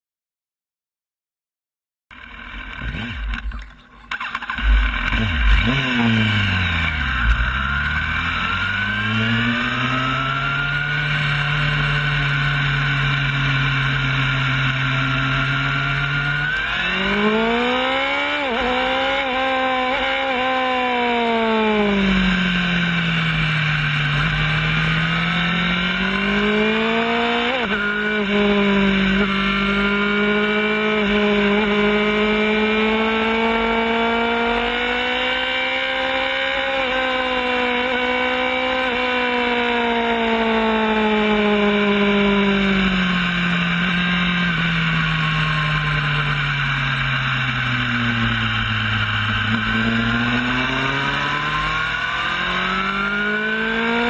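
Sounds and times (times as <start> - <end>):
motorcycle engine revving: 2.1 - 54.0.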